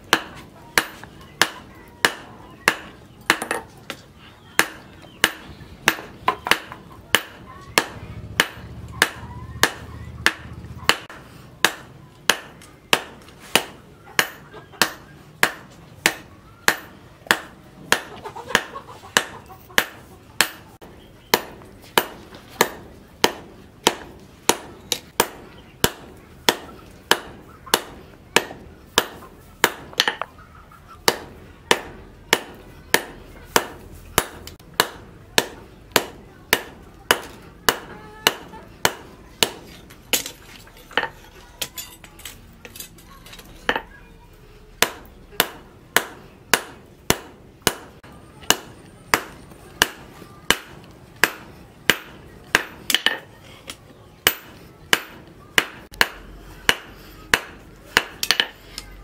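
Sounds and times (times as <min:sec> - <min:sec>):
hammer striking steel on anvil: 0:04.6 - 0:30.3, 0:31.0 - 0:43.9, 0:44.8 - 0:53.3, 0:54.2 - 0:58.9.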